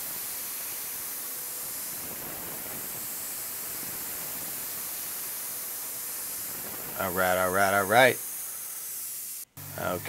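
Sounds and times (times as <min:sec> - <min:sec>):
coolant spray hissing: 0:00.0 - 0:10.0.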